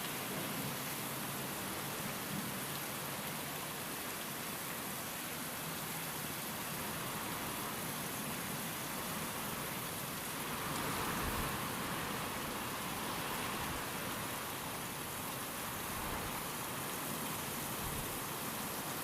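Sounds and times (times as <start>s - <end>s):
steady rain falling: 0.0s - 19.0s
wind: 0.0s - 19.0s.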